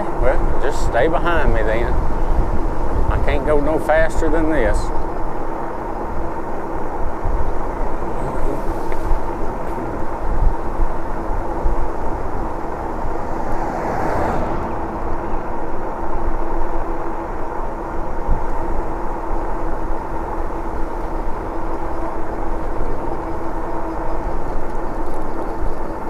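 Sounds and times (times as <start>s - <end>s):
electric bike drive hum: 0.0s - 26.0s
wind rumbling on microphone: 0.0s - 26.0s.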